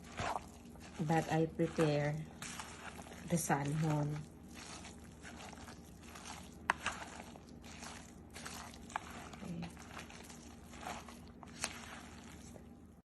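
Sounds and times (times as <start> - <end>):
food preparation rustling and scraping: 0.0 - 13.0.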